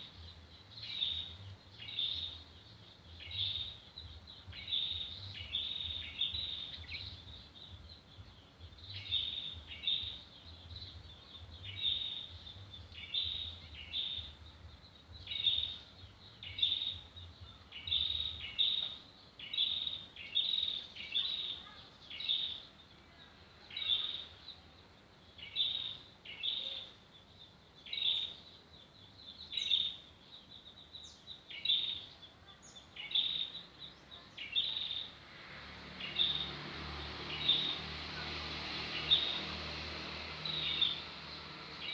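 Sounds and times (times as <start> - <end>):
bird high chirps: 0.0 - 35.2.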